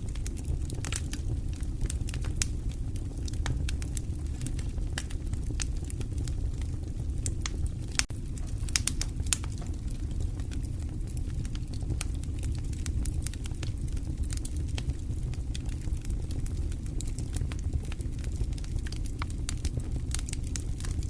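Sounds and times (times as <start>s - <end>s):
fire crackling in fireplace: 0.0s - 21.0s.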